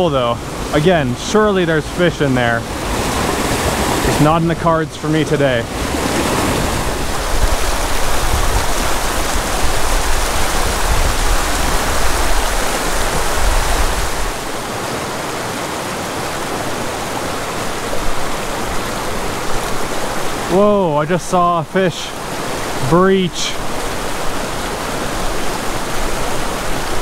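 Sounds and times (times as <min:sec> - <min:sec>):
creek rushing over rocks: 0:00.0 - 0:27.0.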